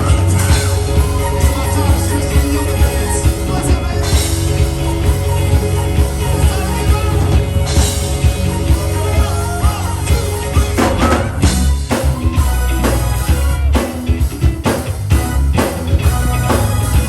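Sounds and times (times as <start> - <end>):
live funk-rock band: 0.0 - 17.0.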